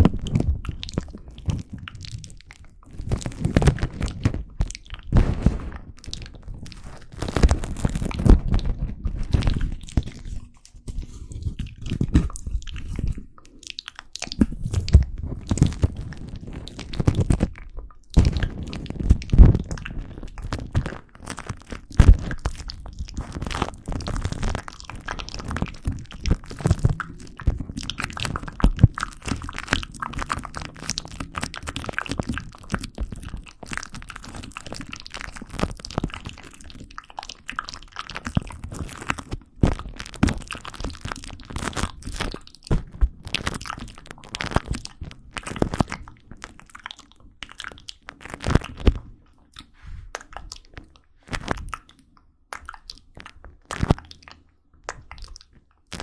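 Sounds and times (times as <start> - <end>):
crunches and crackles: 0.0 - 56.0.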